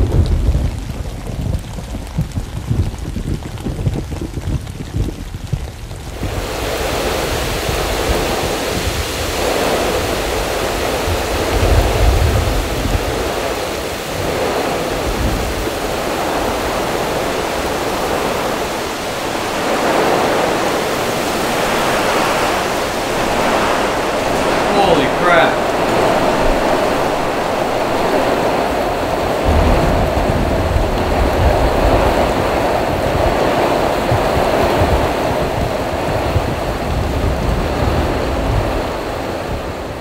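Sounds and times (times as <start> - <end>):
heavy rain pouring: 0.0 - 40.0
low thunder rumble: 0.0 - 40.0.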